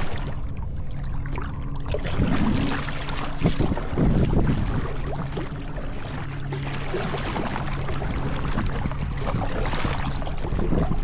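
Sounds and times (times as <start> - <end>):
steady low hum: 0.0 - 11.0
water splashing around kayak: 0.0 - 11.0.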